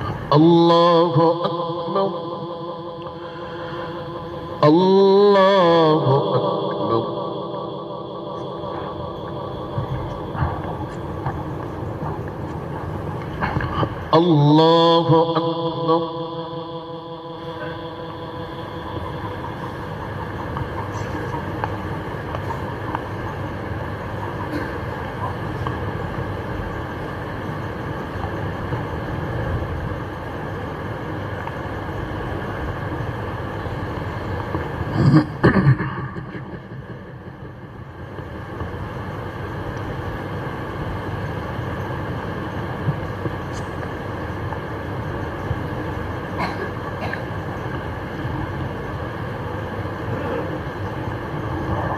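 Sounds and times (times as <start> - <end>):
steady low background noise: 0.0 - 51.9.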